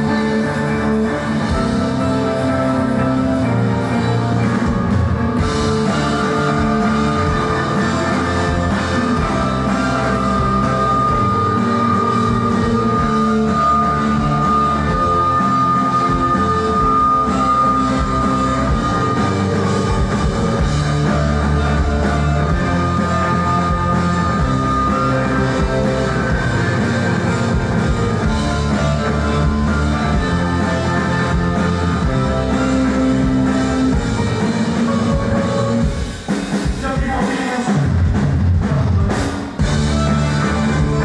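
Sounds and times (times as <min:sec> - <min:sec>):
violin: 0:00.0 - 0:36.3, 0:39.6 - 0:41.0
drum kit: 0:00.0 - 0:41.0
electric guitar: 0:00.0 - 0:41.0.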